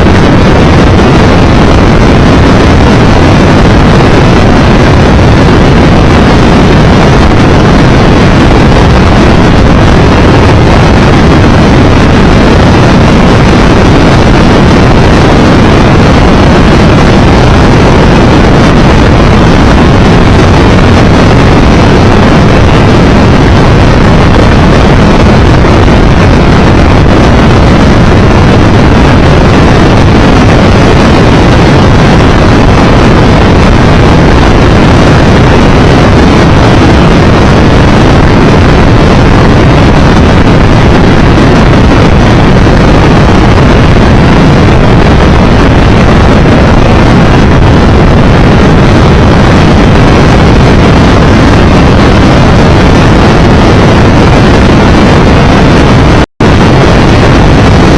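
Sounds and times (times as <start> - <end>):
motorcycle engine and road noise: 0.0 - 56.2
wind rushing over microphone: 0.0 - 57.9.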